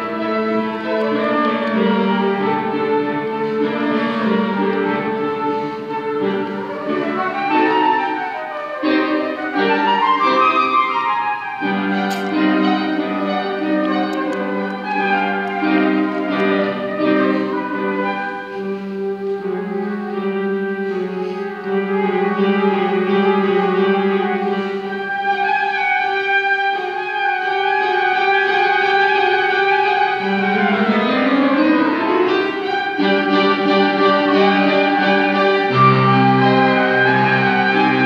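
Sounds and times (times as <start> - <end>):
flute melody: 0.0 - 38.0
low held accompaniment notes: 0.0 - 38.0.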